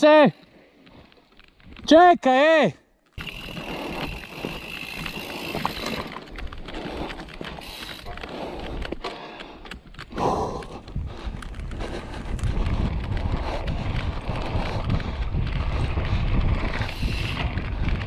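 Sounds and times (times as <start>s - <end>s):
bike tyres and rattle on dirt: 0.0s - 18.0s.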